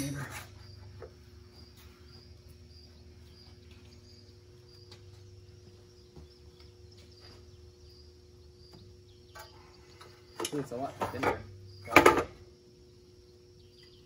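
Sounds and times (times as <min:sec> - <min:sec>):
cricket chirping: 0:00.0 - 0:14.0
steady low hum: 0:00.0 - 0:14.0.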